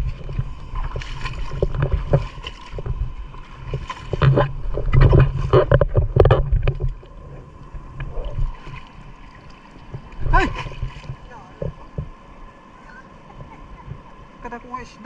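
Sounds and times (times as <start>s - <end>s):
feet splashing through shallow water: 0.0s - 14.4s
steady low rumble: 0.0s - 15.0s.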